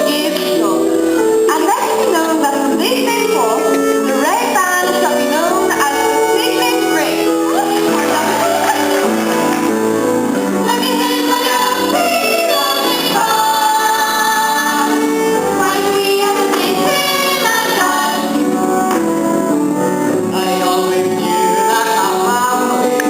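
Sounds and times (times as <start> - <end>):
young performers singing: 0.0 - 23.0.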